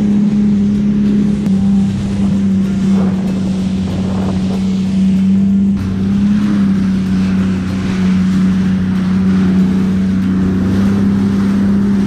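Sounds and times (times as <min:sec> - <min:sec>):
jet ski engine drone: 0:00.0 - 0:12.0
water rushing and spraying: 0:00.0 - 0:12.0.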